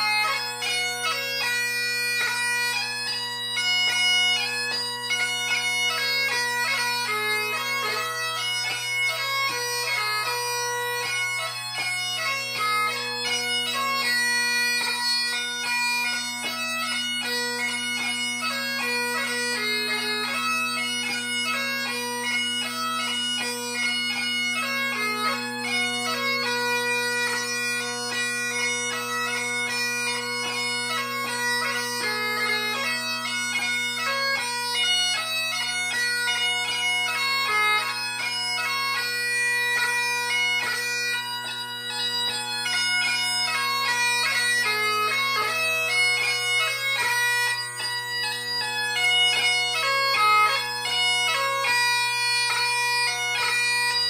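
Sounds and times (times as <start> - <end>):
bagpipe march: 0.0 - 54.0.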